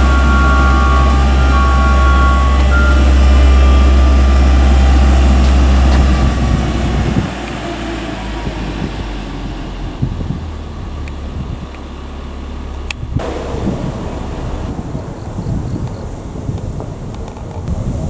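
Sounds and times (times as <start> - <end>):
heavy engine humming: 0.0 - 18.0.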